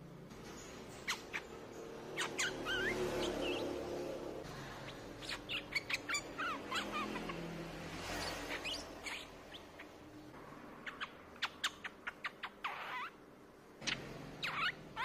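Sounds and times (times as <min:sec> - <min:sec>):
bird chirping: 0:00.3 - 0:13.2, 0:13.8 - 0:15.0.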